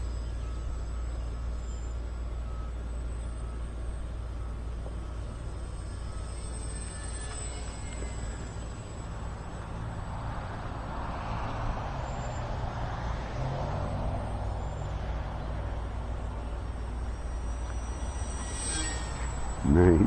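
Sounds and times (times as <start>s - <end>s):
small electric motor and propeller humming: 0.0s - 20.0s.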